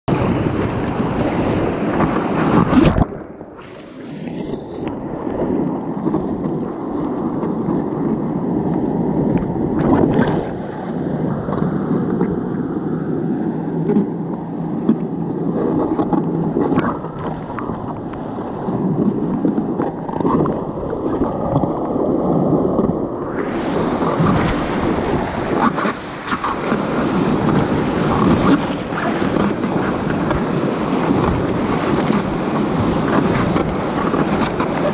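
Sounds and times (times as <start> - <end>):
water splashing against raft: 0.1 - 12.4, 14.8 - 34.9.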